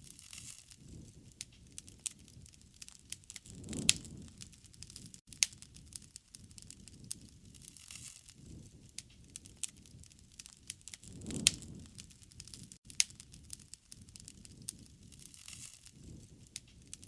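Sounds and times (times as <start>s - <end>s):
low rush of flames: 0.0s - 17.0s
wood fire crackling and popping: 0.0s - 17.0s.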